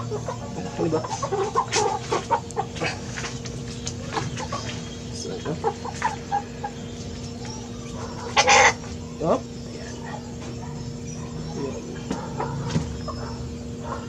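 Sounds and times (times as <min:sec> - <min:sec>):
steady low hum: 0:00.0 - 0:14.0
young chickens clucking: 0:00.0 - 0:14.0.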